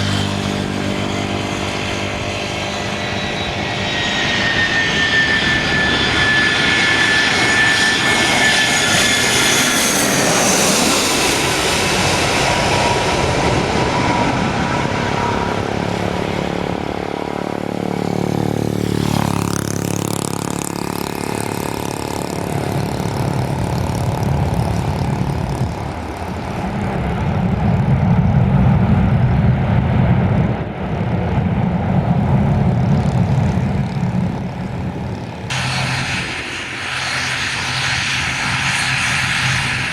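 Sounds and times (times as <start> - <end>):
deep engine rumble: 0.0 - 18.6, 19.7 - 39.9
airliner engines whining: 0.0 - 39.9.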